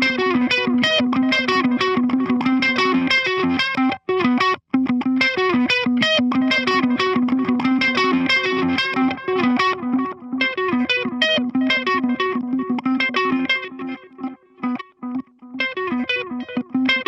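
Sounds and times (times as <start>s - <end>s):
clean electric guitar picked notes: 0.0s - 17.0s.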